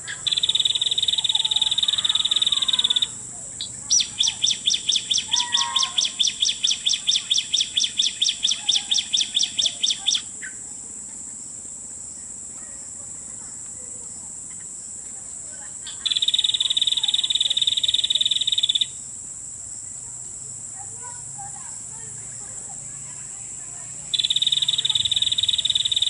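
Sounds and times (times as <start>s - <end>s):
bird calls: 0.0s - 19.0s, 22.3s - 26.0s
high insect drone: 0.0s - 26.0s.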